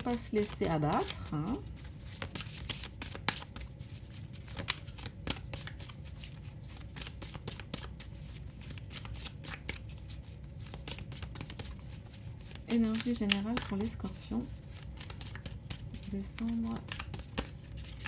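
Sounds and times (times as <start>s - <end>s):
cards being shuffled: 0.0s - 18.0s.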